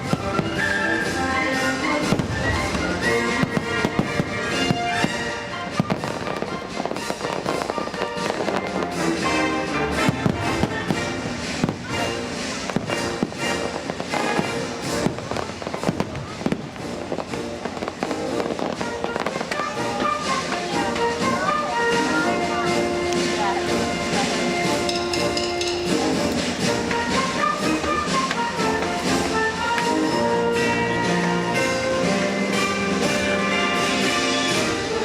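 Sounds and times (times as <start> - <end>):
fireworks bangs and crackles: 0.0 - 35.0
music: 0.0 - 35.0.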